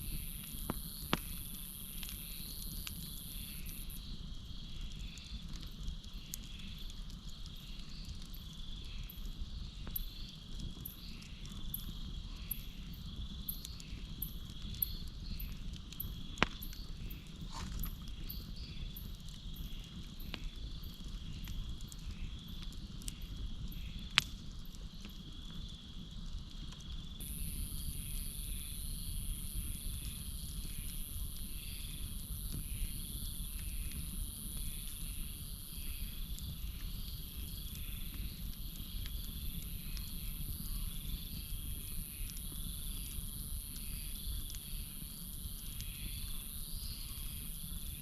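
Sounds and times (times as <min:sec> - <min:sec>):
campfire crackling: 0:00.0 - 0:48.0
crickets chirping: 0:00.0 - 0:48.0
fire pops: 0:00.0 - 0:48.0.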